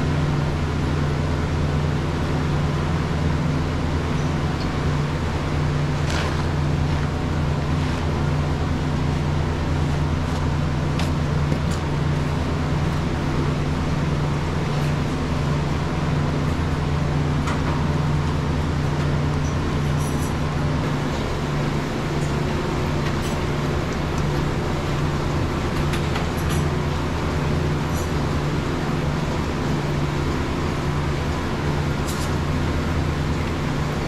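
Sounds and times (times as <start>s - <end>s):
milking machine humming: 0.0s - 34.0s.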